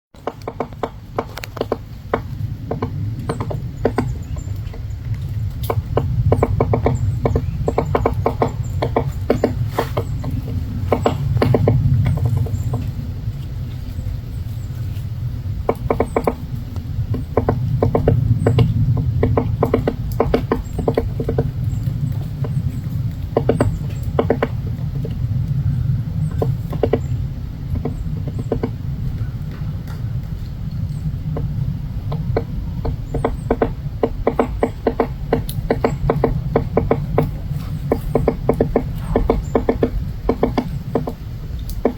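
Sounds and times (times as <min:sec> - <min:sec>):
steady low rumble: 0:00.2 - 0:41.9
woodpecker tapping on wood: 0:00.2 - 0:41.9.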